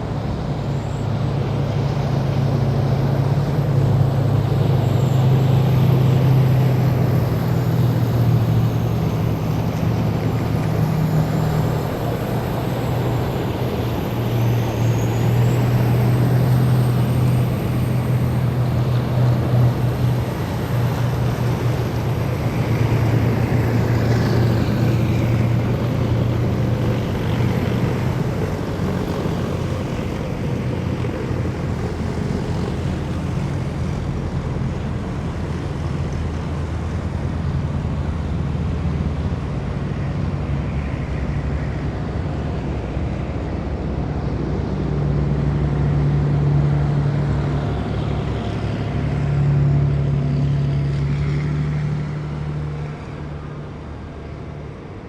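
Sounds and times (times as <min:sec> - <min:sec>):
heavy vehicle engines droning: 0:00.0 - 0:55.0.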